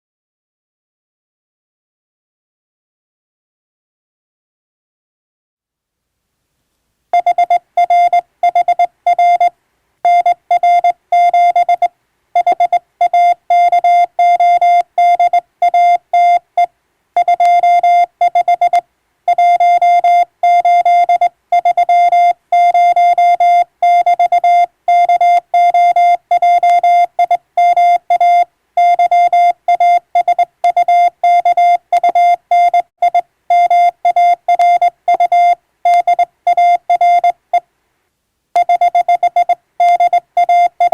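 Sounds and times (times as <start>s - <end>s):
morse code tone: 7.2s - 37.6s, 38.6s - 40.9s.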